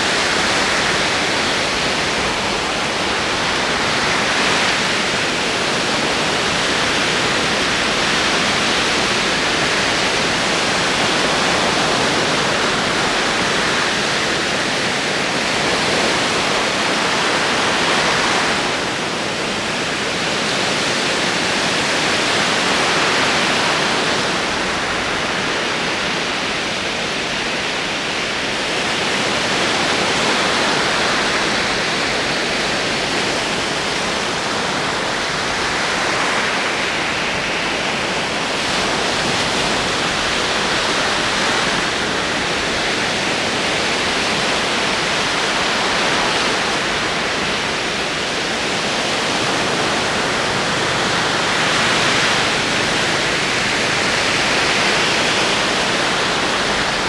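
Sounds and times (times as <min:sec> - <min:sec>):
ocean waves rolling onto shore: 0:00.0 - 0:57.0.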